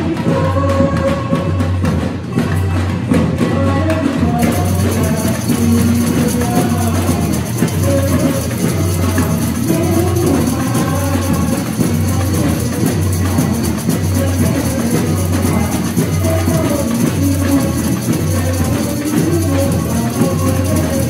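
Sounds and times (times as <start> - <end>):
bass drums beating: 0.0 - 21.0
high percussion: 0.0 - 21.0
pitched melody line: 2.4 - 21.0.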